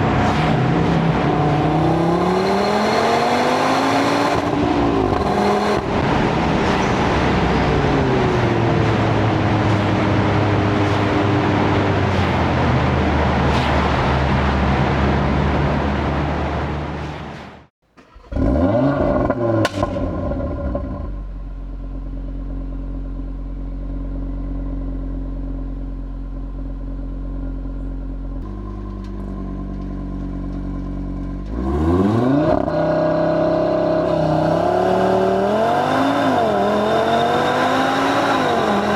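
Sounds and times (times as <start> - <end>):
car engine revving through gears: 0.0 - 21.2, 28.4 - 38.9.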